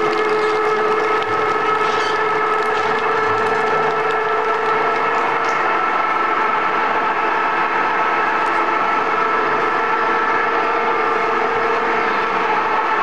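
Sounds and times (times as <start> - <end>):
bark shredder running with whine: 0.0 - 13.0.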